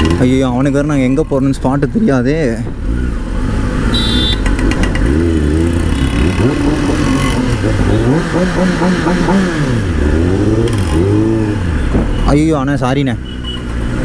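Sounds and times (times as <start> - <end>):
motorcycle engine revving: 0.0 - 12.3.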